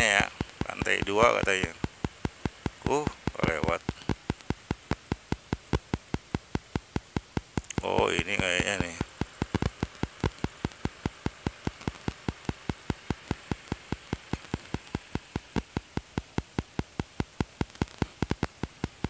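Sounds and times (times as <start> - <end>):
faint steady hiss: 0.0 - 19.0
rapid sharp ticking: 0.0 - 19.0.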